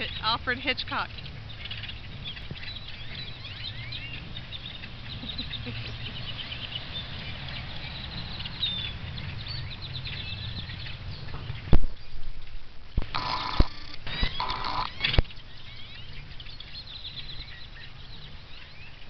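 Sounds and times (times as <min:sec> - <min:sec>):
flock of birds chattering: 0:00.0 - 0:19.0
low background rumble: 0:00.0 - 0:19.0.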